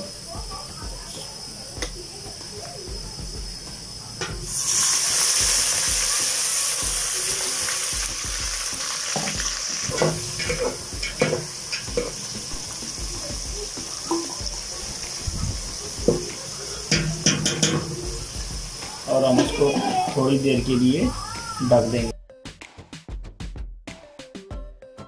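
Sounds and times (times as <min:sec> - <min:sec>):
water hissing in hot oil: 0:00.0 - 0:22.1.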